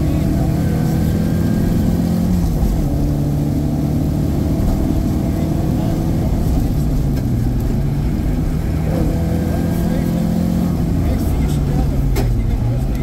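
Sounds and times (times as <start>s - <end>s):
rally car engine from inside: 0.0s - 13.0s.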